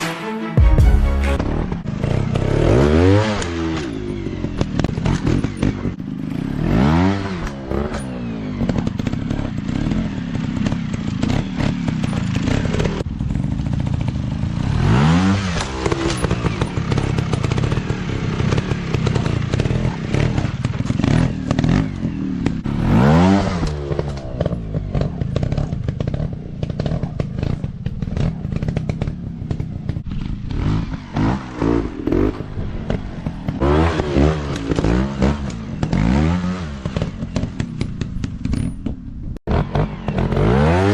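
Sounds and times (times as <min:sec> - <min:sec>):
dirt bike engines revving: 0:01.4 - 0:40.9.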